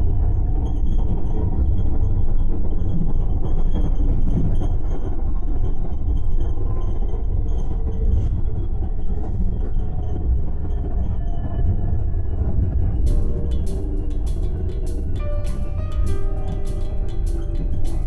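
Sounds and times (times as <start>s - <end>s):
railway car low rumble: 0.0s - 18.0s.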